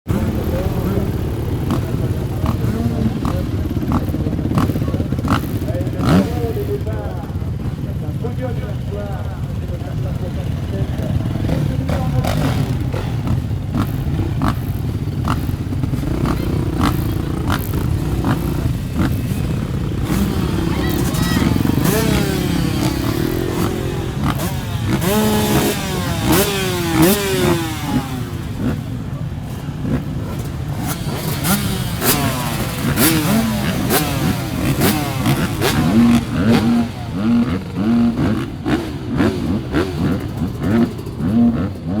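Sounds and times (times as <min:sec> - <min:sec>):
motocross bike engines running: 0:00.1 - 0:42.0.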